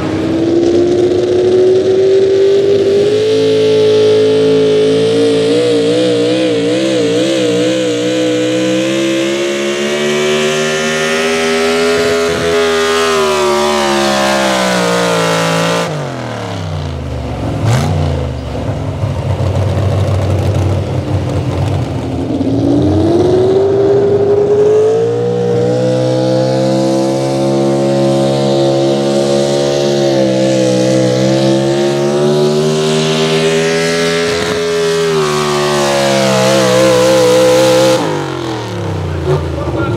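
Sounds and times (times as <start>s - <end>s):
truck engines revving under load: 0.0s - 39.9s.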